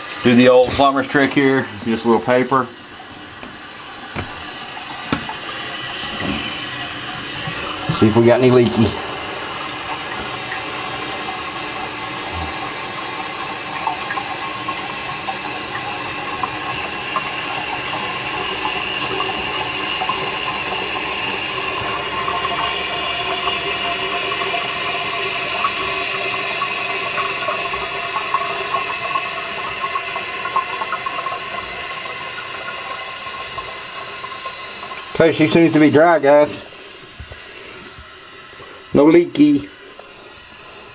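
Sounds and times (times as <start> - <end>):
toilet tank refilling: 0.0 - 40.9.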